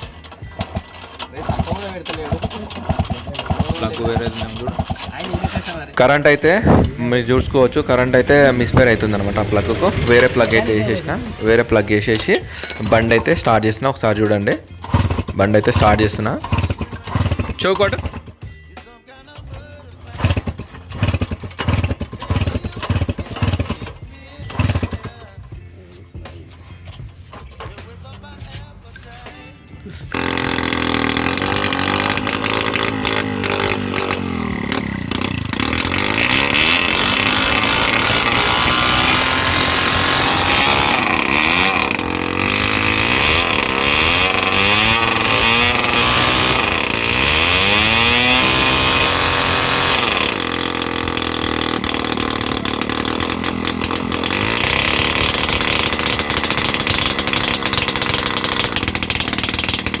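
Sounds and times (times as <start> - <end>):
moped engine revving: 0.0 - 60.0.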